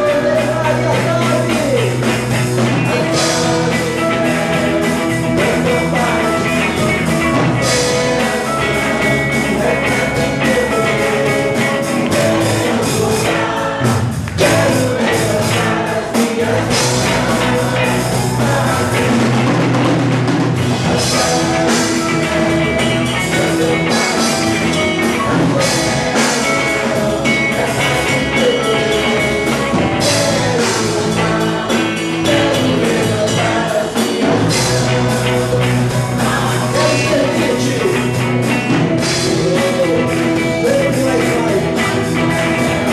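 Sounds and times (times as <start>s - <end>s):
rock worship band: 0.0s - 42.9s.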